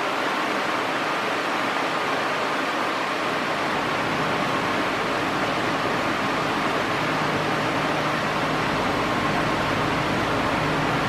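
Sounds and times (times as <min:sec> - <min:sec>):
faint fan hum: 0:00.0 - 0:11.0
fan rush of air: 0:00.0 - 0:11.0.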